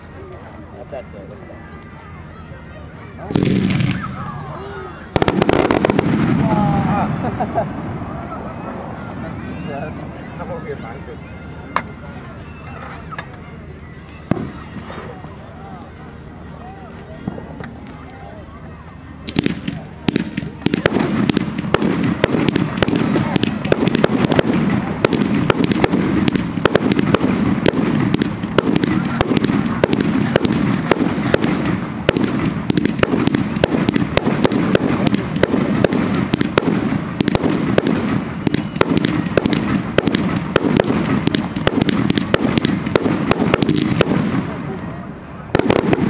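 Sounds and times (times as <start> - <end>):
fireworks bangs and crackles: 3.2 - 13.5, 14.1 - 16.2, 16.9 - 46.0.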